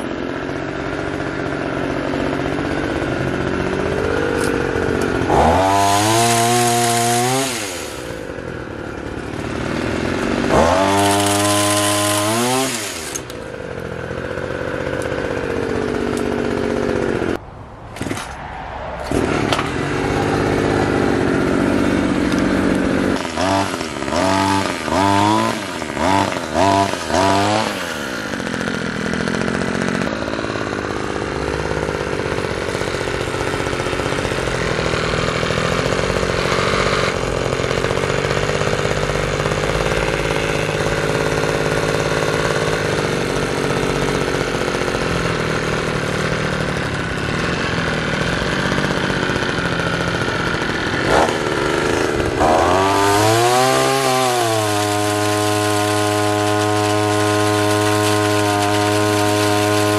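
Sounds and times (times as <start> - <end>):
two-stroke engine running: 0.0 - 17.4, 19.0 - 59.9.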